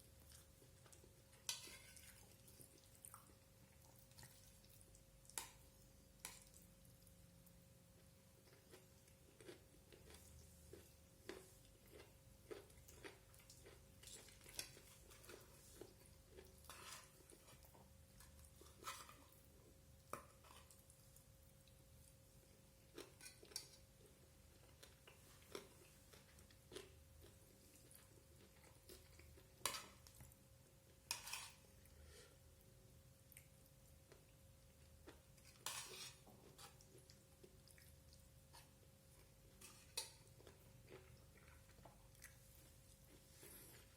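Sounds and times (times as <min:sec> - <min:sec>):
chewing: 0:00.1 - 0:05.6, 0:08.0 - 0:30.4, 0:33.2 - 0:43.9.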